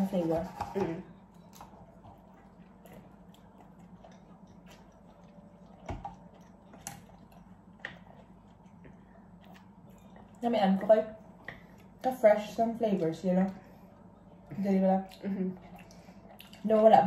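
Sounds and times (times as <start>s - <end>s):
mouth chewing: 1.3s - 12.2s, 13.4s - 17.0s.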